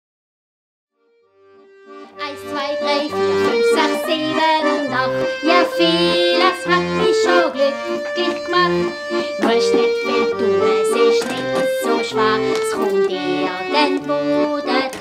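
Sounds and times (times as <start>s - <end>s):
accordion music: 1.2s - 15.0s.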